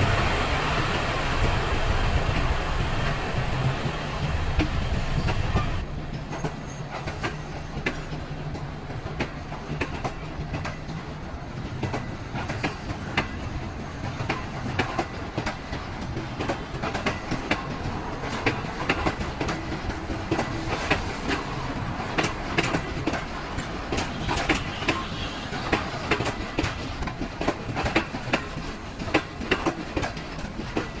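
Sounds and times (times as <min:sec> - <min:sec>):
train wheels clattering on track: 0:00.0 - 0:31.0.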